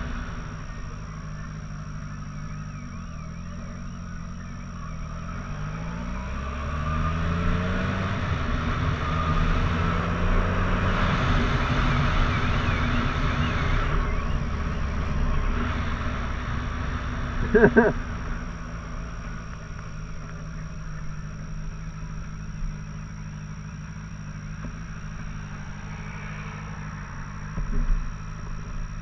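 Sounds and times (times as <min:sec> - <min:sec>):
motorcycle engine shifting gears: 0:00.0 - 0:29.0.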